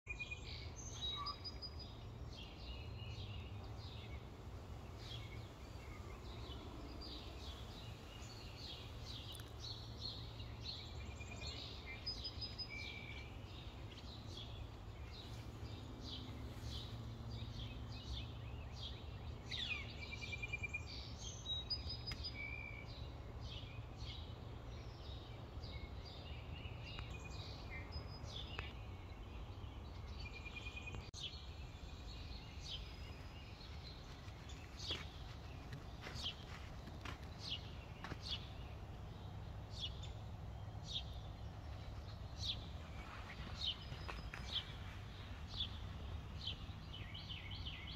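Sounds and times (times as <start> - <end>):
songbirds chirping and singing: 0.1 - 47.9.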